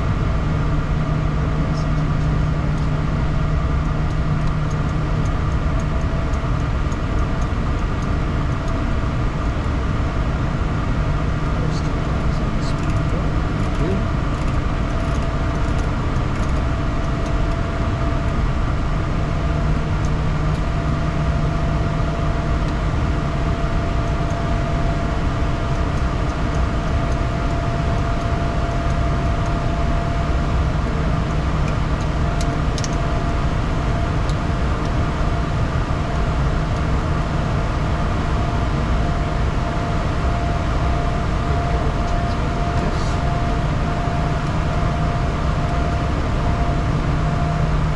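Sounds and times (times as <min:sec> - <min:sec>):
jet engines droning: 0:00.0 - 0:47.9.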